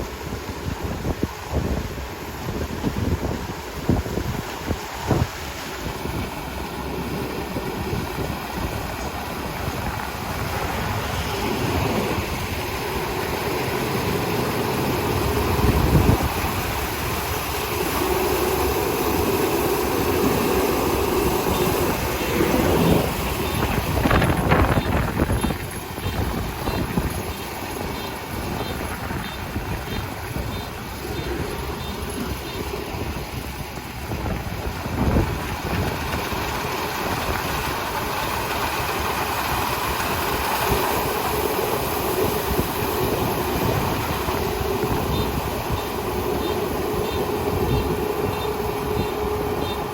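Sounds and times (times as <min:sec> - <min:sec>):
combine harvester clatter and rumble: 0:00.0 - 0:49.9.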